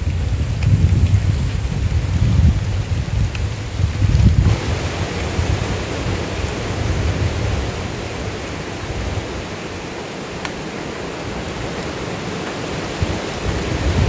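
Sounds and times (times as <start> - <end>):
heavy rain falling in forest: 0.0 - 14.0
wind gusting on microphone: 0.0 - 14.0.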